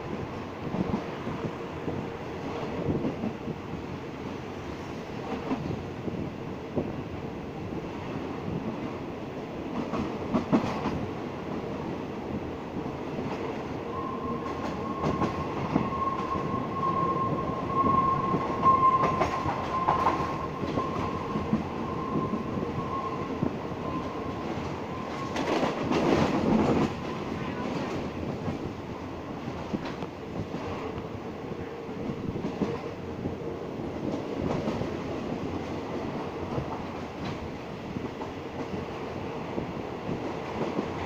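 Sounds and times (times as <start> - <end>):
train rumbling on rails: 0.0 - 41.0.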